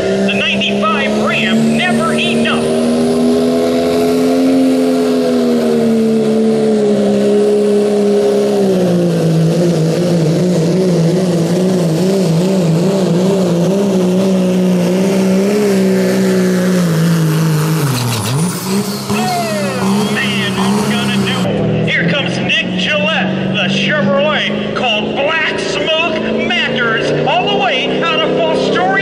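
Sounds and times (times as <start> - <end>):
diesel engine at full throttle: 0.0 - 29.0.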